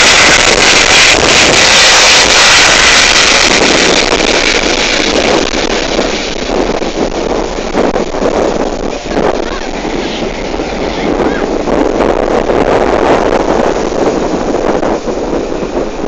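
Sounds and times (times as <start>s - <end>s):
helicopter rotor and turbine noise: 0.0s - 16.0s
rotor wash buffeting microphone: 0.0s - 16.0s.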